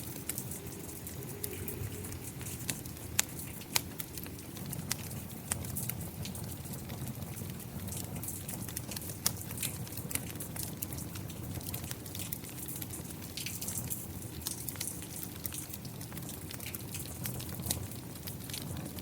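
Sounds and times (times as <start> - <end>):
rain pattering: 0.0 - 19.0
wood fire crackling and popping: 0.0 - 19.0.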